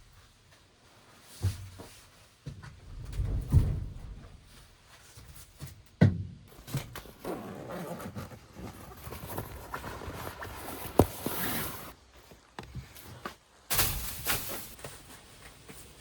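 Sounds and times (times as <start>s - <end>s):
rustling and scraping: 0.0s - 5.9s, 6.5s - 16.0s.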